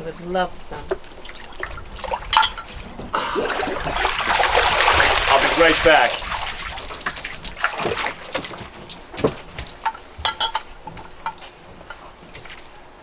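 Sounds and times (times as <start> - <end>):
water splashing and dripping: 0.7 - 13.0.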